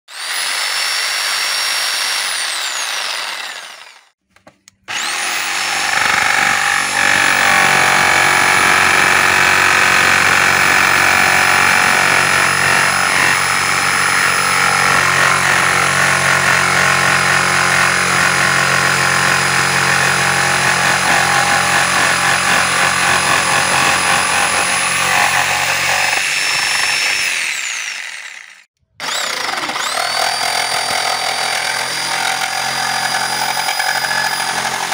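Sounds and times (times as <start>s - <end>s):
electric jigsaw motor whine: 0.1s - 4.2s, 4.9s - 34.9s
jigsaw blade sawing wood: 0.1s - 4.2s, 4.9s - 34.9s.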